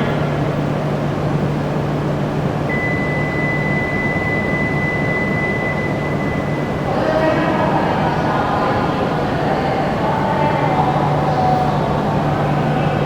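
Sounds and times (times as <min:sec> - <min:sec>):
train platform hum and rumble: 0:00.0 - 0:13.0.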